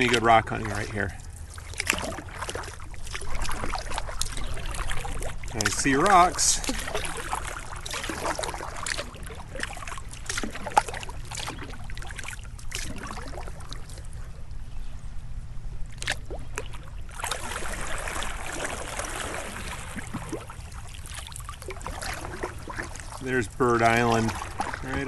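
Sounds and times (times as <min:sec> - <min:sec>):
kayak paddle strokes: 0:00.0 - 0:14.3, 0:15.9 - 0:25.0
water trickling and splashing: 0:00.0 - 0:14.5, 0:15.8 - 0:25.0.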